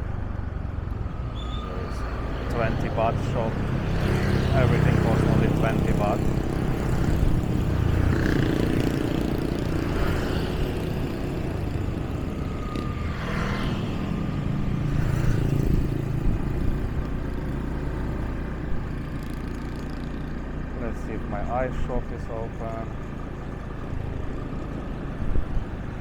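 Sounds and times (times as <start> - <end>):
motorbike engine running: 2.3 - 26.0.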